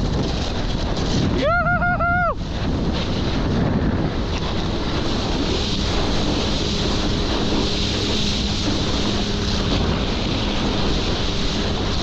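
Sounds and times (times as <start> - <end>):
jet ski engine drone: 0.0 - 12.0
rushing water and surf: 0.0 - 12.0
wind buffeting microphone: 0.0 - 12.0.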